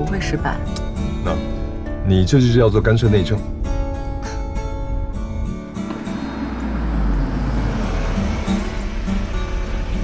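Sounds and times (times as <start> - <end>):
car engine and tyre rumble: 0.0 - 10.0
soft guitar music: 0.0 - 10.0.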